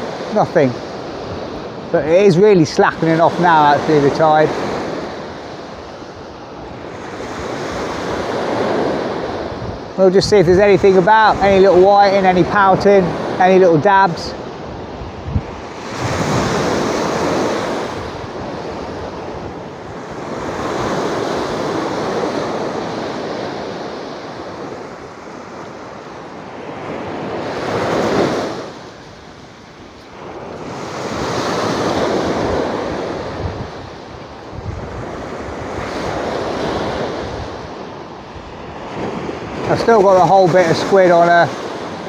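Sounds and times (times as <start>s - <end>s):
wind buffeting microphone: 0.0s - 25.0s, 25.8s - 42.0s
surf breaking on beach: 0.0s - 42.0s.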